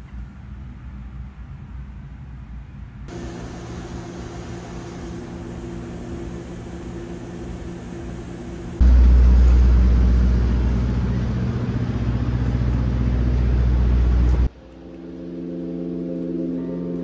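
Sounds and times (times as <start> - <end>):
city street traffic rumble: 0.0 - 14.5.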